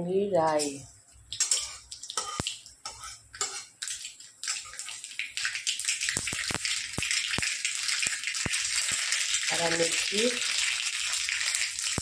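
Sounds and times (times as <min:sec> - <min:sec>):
oil sizzling: 0:00.5 - 0:12.0
mustard seeds popping in oil: 0:00.6 - 0:02.8, 0:03.4 - 0:12.0.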